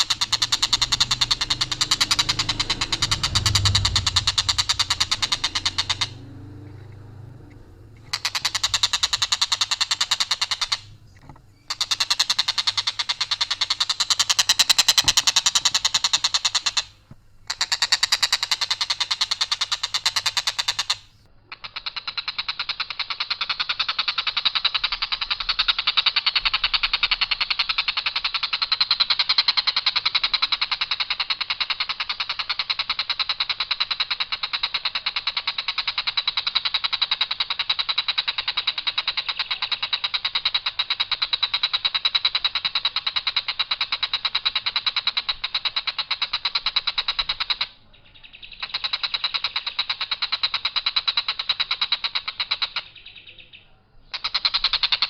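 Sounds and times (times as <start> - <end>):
bird rattling call: 0.0 - 55.0.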